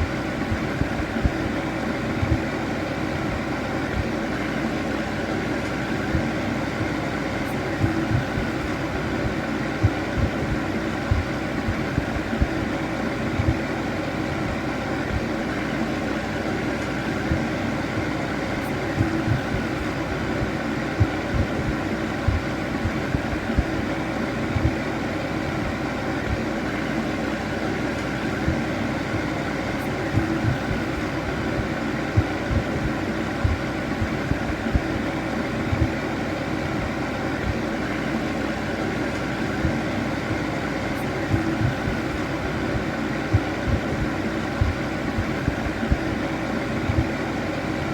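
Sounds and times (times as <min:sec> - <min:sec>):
fan heater whirring hum: 0:00.0 - 0:47.9.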